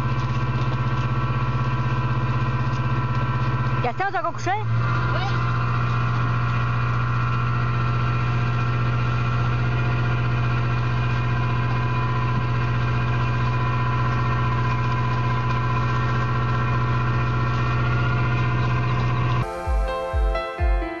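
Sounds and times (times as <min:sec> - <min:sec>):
boat engine idling: 0:00.0 - 0:19.4.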